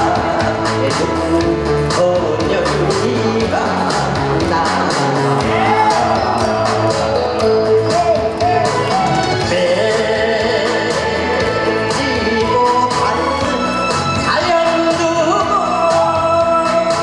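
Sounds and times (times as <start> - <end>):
man singing through microphone: 0.0 - 17.0
music with steady beat: 0.0 - 17.0.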